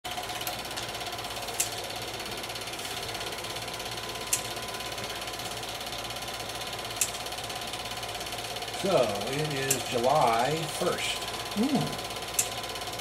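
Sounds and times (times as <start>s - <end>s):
faint motor hum: 0.1s - 13.0s
film projector clatter: 0.1s - 13.0s.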